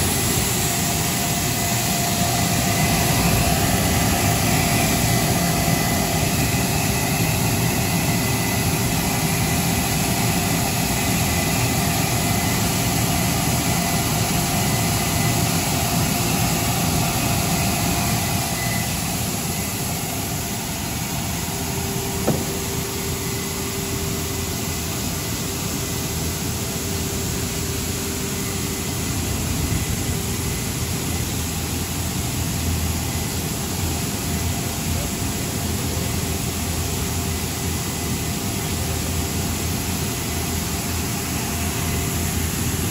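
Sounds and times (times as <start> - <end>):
steady hum tones: 0.0 - 42.9.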